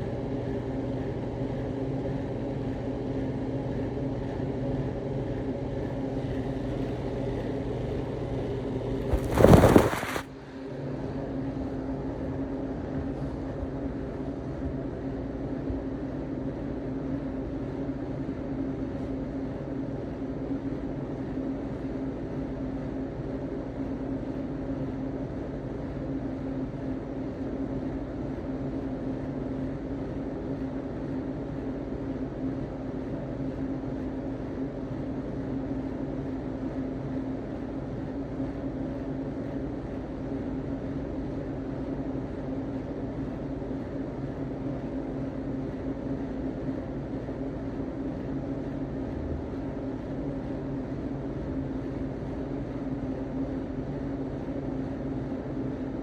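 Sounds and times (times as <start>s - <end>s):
mechanical hum with pitched tone: 0.0s - 56.0s.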